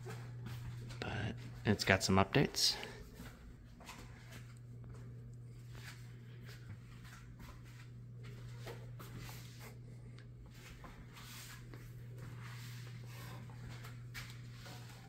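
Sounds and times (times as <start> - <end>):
faint footsteps: 0.0 - 15.0
steady low hum: 0.0 - 15.0.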